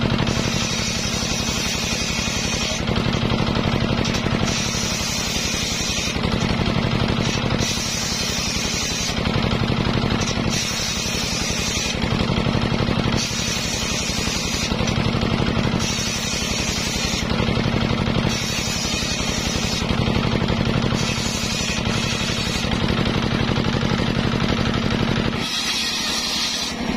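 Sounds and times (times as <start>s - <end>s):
saw blade whining through wood: 0.0s - 26.9s
saw motor droning: 0.0s - 26.9s.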